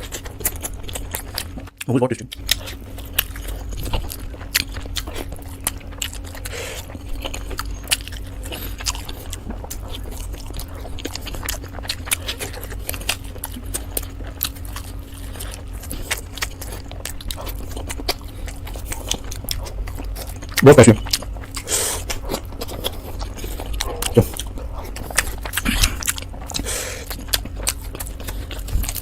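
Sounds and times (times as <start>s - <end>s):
chewing food: 0.0s - 29.0s
low hum: 0.0s - 29.0s.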